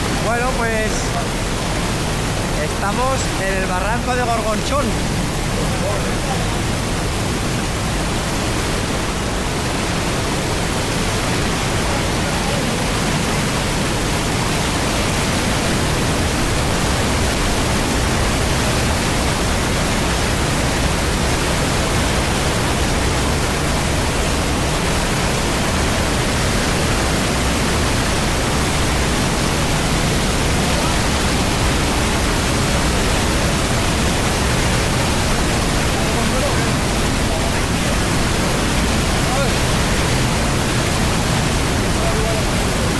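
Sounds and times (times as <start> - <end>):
water rushing in streambed: 0.0 - 42.9.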